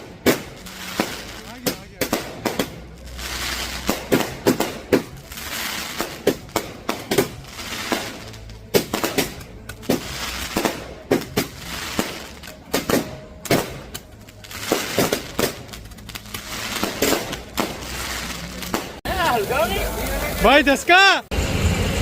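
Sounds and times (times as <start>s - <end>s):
hissing and crackling: 0.0s - 21.2s
firecrackers bursting: 0.0s - 22.0s.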